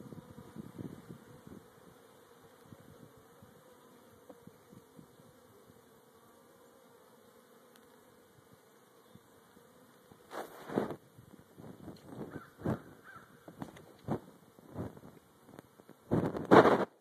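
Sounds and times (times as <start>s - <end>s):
honeybees humming: 0.0s - 16.4s.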